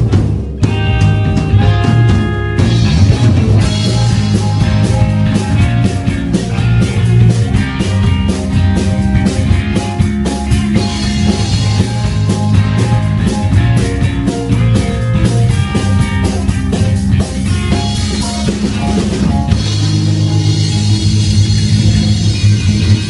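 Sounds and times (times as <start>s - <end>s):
bass guitar: 0.0s - 23.0s
drum kit: 0.0s - 23.0s
electric guitar: 0.0s - 23.0s.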